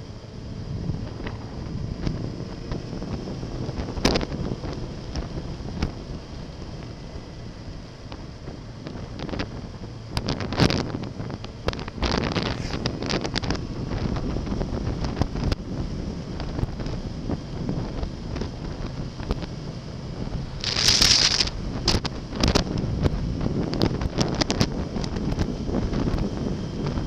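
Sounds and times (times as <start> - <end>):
motorcycle engine running: 0.0 - 27.0
wind rushing over microphone: 0.0 - 27.0.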